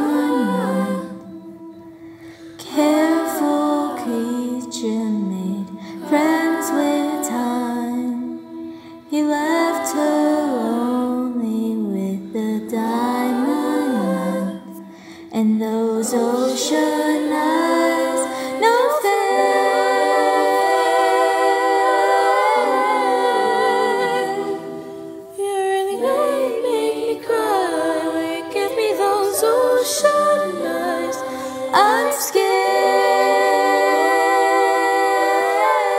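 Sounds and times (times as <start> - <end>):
a cappella vocal ensemble singing: 0.0 - 35.9.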